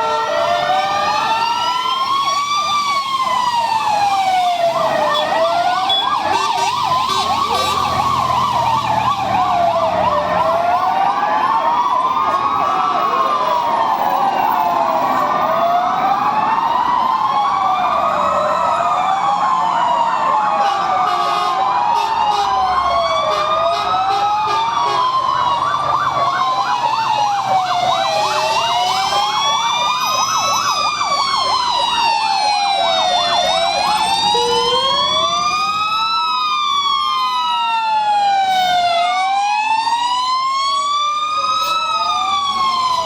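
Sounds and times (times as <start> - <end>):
siren fast yelp: 0.0 - 43.0
sirens wailing: 0.0 - 43.0.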